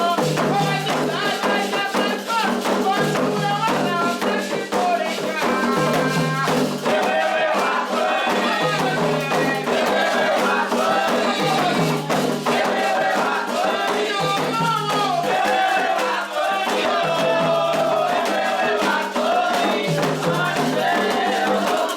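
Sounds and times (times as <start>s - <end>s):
percussion: 0.0s - 21.9s
shaken rattle: 0.0s - 21.9s
voices singing a chant: 0.0s - 21.9s.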